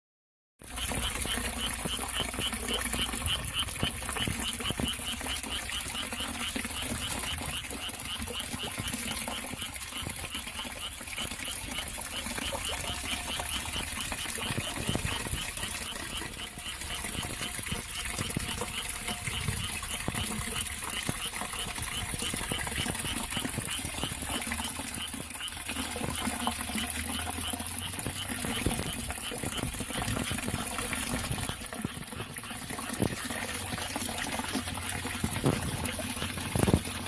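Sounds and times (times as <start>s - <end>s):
small animal chirping: 0.8s - 33.2s.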